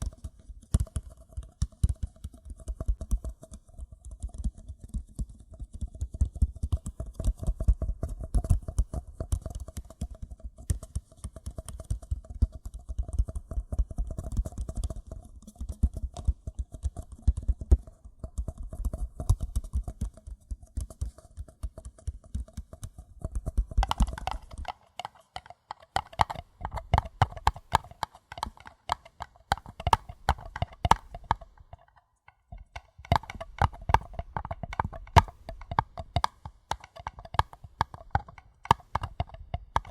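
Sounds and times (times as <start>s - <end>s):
fingers tapping on paper cups: 0.0s - 39.9s.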